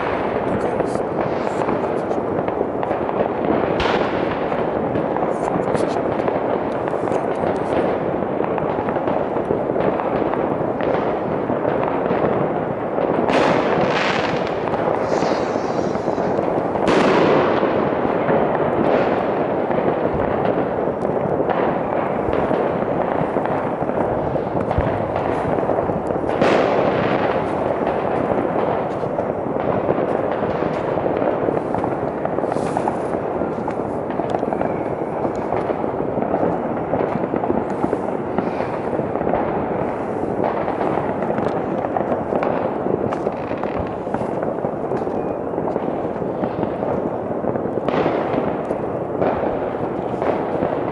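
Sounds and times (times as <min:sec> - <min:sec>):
fireworks crackling and banging: 0:00.0 - 0:50.9
loud firework bangs: 0:00.0 - 0:50.9.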